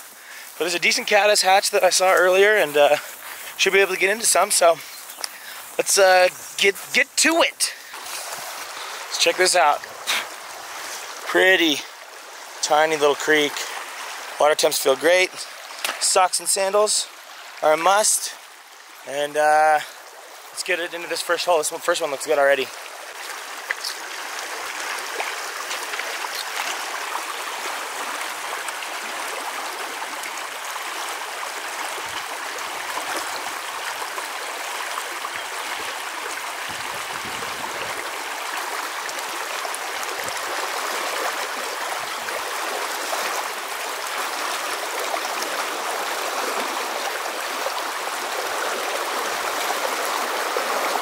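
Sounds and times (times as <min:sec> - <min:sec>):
creek running over rocks: 0:00.0 - 0:51.0.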